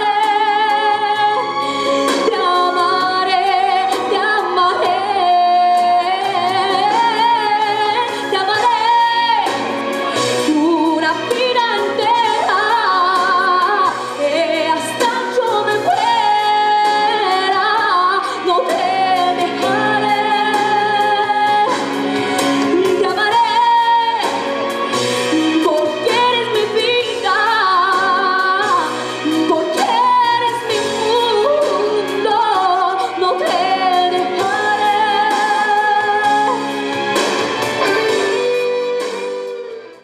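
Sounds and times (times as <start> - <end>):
instrumental accompaniment: 0.0 - 40.0.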